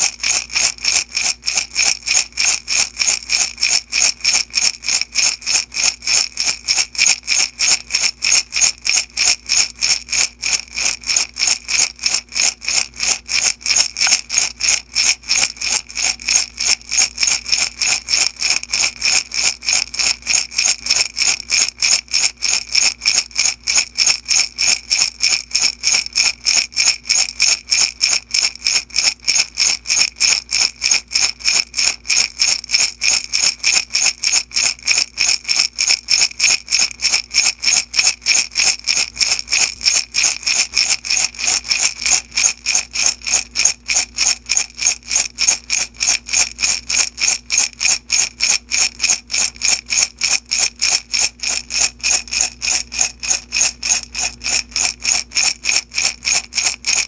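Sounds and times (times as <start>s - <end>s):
beads rattling in glass jar: 0.0s - 57.0s.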